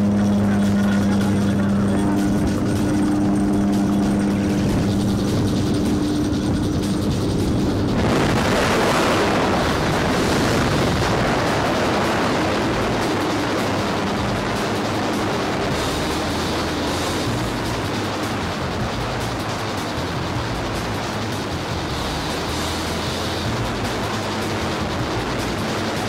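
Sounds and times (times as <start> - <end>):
aircraft propeller droning: 0.0 - 26.0
wind buffeting microphone: 0.0 - 26.0.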